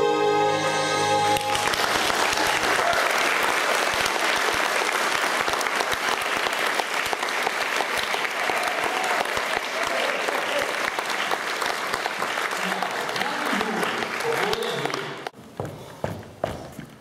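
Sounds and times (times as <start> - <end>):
audience applause: 1.2 - 15.3.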